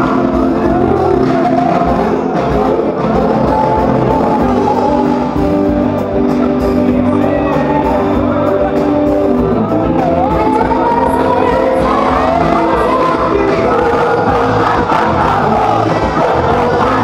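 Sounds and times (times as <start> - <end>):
loud music with steady beat: 0.0 - 17.0
person singing: 0.0 - 17.0.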